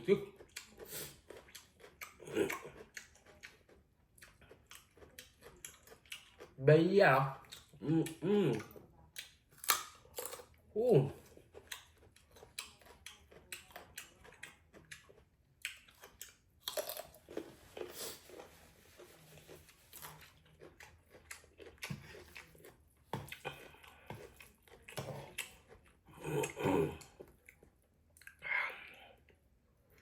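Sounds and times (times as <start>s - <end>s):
person chewing noodles: 0.0s - 6.6s, 7.2s - 30.0s.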